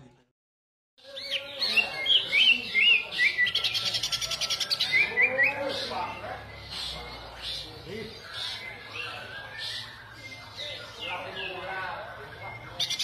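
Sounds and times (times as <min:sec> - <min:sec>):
bird whistling and trilling: 0:01.1 - 0:11.6.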